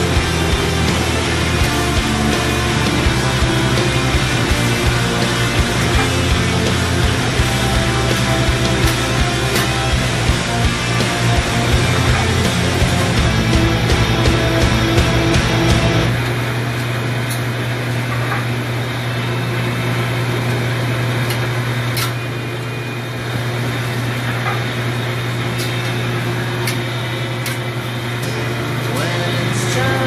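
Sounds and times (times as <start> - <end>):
ship machinery humming: 0.0 - 30.0.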